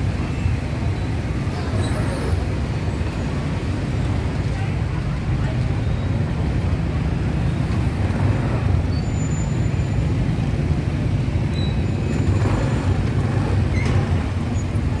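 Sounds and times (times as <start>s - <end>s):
faint street noise: 0.0s - 15.0s.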